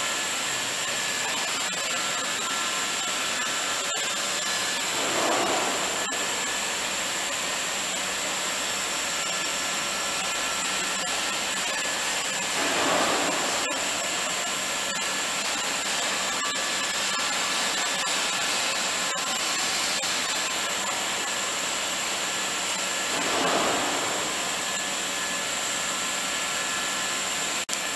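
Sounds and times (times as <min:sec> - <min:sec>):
high machine whine: 0:00.0 - 0:27.9
machine whirring and blowing: 0:00.0 - 0:27.9.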